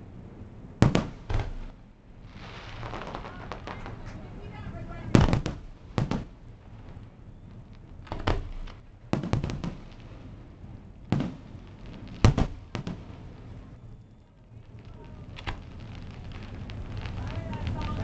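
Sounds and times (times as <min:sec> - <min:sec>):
firework shells bursting: 0:00.8 - 0:18.0.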